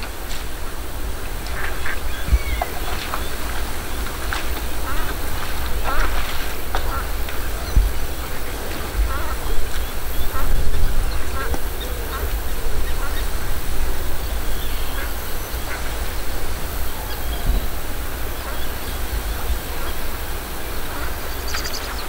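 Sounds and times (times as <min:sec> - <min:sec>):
duck and ducklings calling: 0:00.0 - 0:22.0
wind rumbling on microphone: 0:00.0 - 0:22.0.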